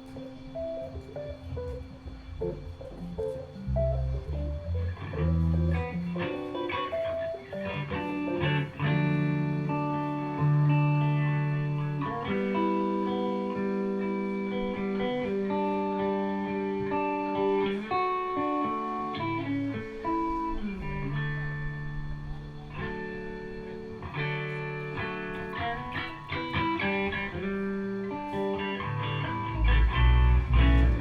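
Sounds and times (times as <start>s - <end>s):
guitar playing chords: 0.0s - 31.0s.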